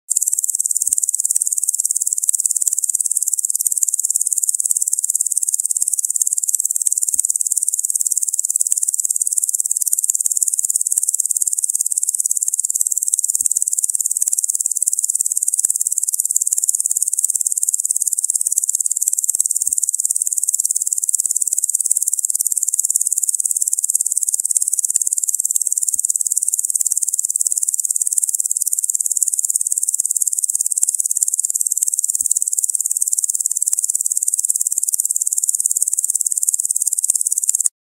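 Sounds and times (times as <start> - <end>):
insect chorus shrill buzz: 0.1 - 37.7.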